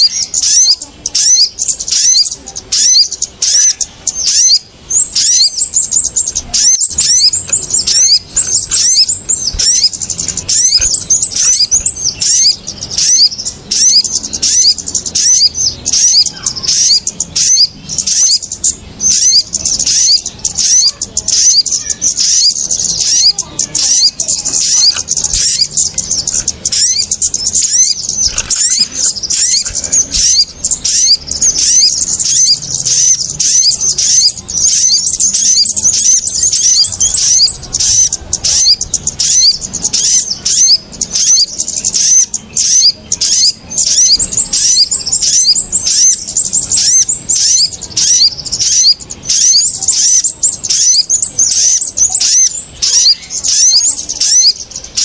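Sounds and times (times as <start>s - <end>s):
small birds chirping agitatedly: 0.0s - 55.0s.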